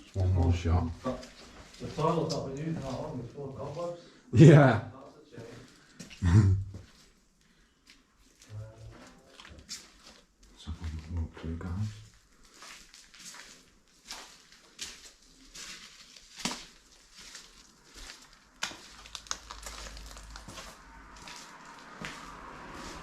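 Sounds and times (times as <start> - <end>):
footsteps crunching over debris: 0.0 - 3.9, 5.4 - 23.0.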